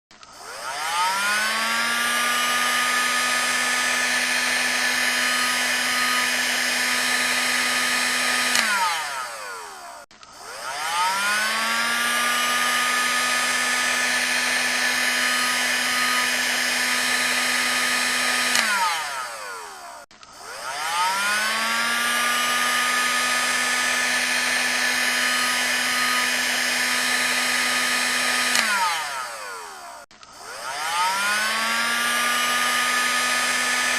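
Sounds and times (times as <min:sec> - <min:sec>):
hair dryer motor whine: 0:00.1 - 0:33.9.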